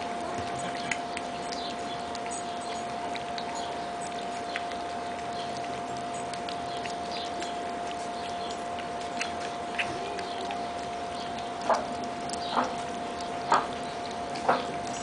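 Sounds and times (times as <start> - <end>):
puppies eating wet food: 0.0 - 15.0.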